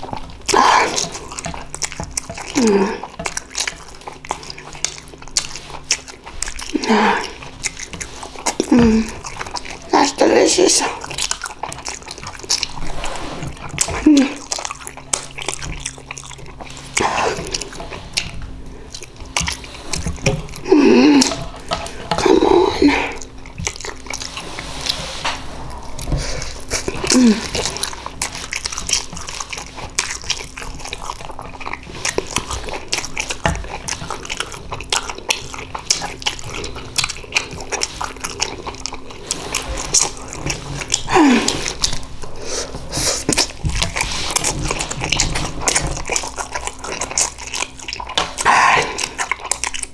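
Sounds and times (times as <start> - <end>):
wet chewing of noodles: 0.0 - 49.9.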